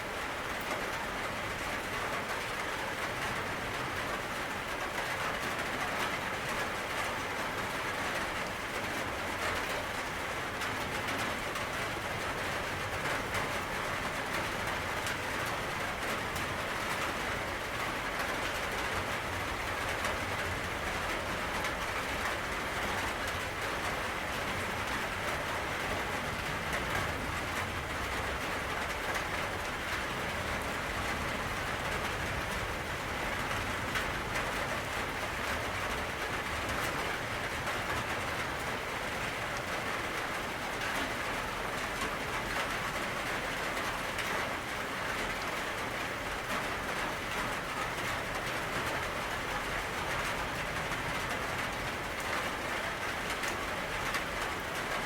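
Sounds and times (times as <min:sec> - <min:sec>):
steady rain hiss: 0:00.0 - 0:55.0
raindrops ticking: 0:00.1 - 0:55.0.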